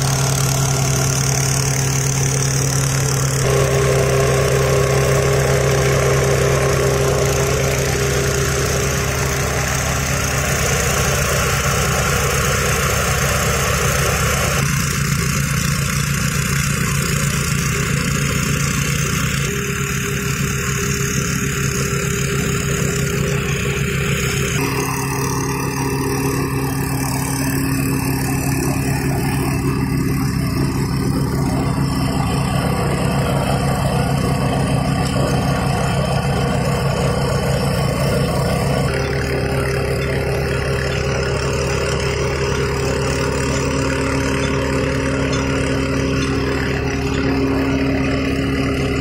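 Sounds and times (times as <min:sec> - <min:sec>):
small petrol engine drilling rail: 0:00.0 - 0:49.0.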